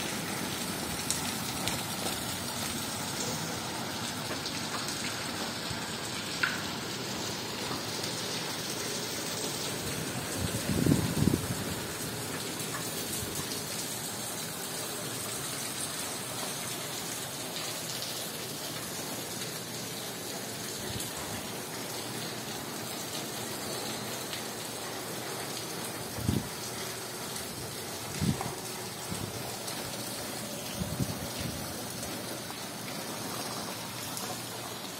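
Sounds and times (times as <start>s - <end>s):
steady rain hissing: 0.0s - 34.9s.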